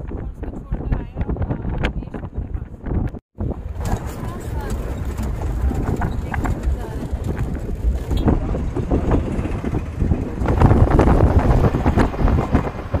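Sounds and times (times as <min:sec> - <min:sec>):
wind buffeting microphone: 0:00.0 - 0:13.0
knocks and rattles: 0:01.5 - 0:13.0
low vehicle rumble: 0:01.7 - 0:13.0.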